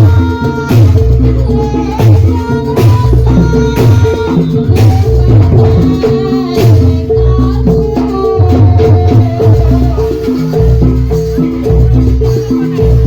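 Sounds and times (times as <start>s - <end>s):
drums and gong percussion ensemble: 0.0s - 13.0s
held ringing tone: 0.0s - 13.0s.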